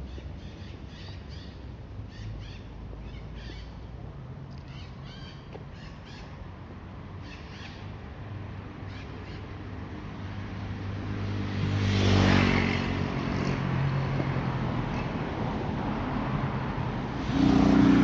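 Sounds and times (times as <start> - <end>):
distant city traffic hum: 0.0 - 18.0.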